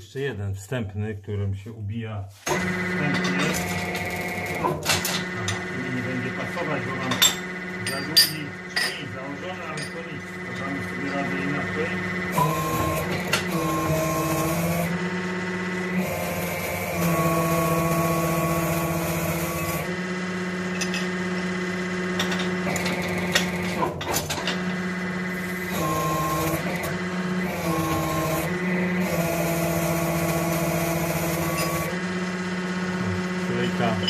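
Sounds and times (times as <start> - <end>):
hydraulic pump motor humming: 2.4 - 34.0.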